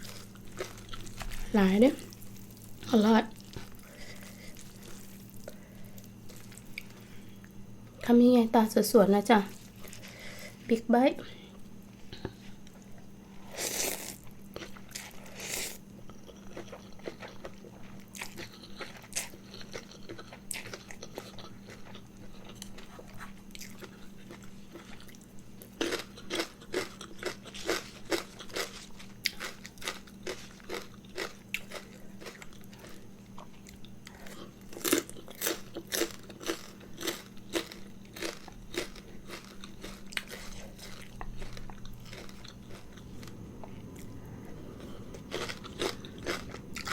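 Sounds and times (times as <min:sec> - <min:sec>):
person crunching noodles: 0:00.0 - 0:07.1, 0:13.5 - 0:46.9
steady low hum: 0:00.0 - 0:46.9.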